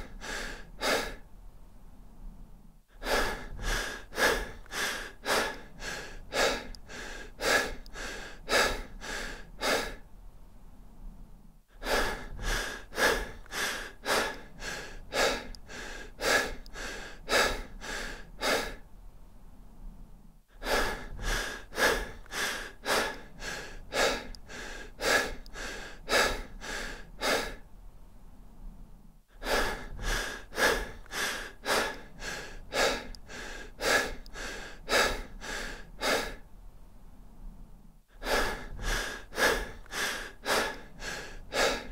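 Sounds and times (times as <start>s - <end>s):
person breathing deep and fast: 0.0s - 41.9s.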